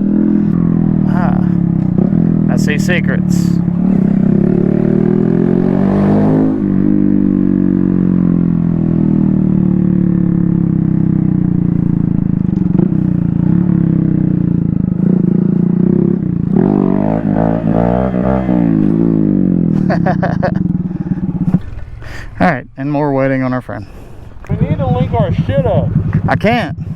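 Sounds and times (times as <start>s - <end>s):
small motorcycle engine running: 0.0s - 22.0s, 24.4s - 26.9s.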